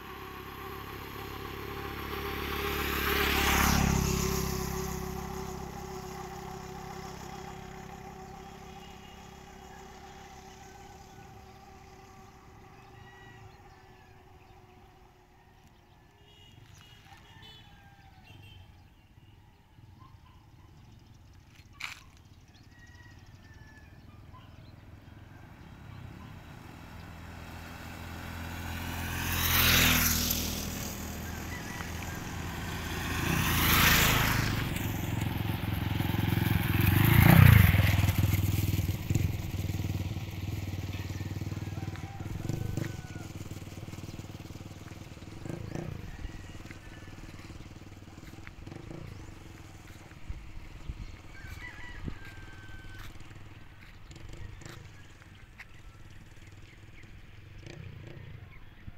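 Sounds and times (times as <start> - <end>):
motorcycles passing by: 0.0 - 58.9.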